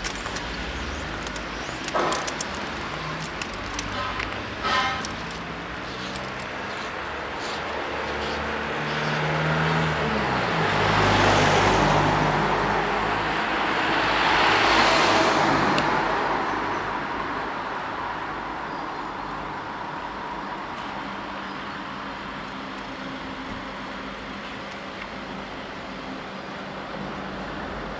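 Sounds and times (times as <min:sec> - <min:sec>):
road traffic: 0:00.0 - 0:27.9
vehicle engine hum: 0:00.0 - 0:27.9
vehicles passing close: 0:00.0 - 0:27.9.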